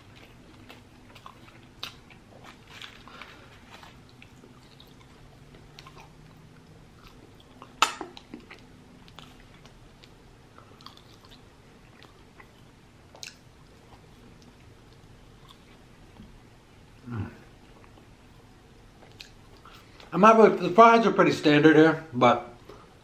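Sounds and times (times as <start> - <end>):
chewing fries: 0.0 - 20.1.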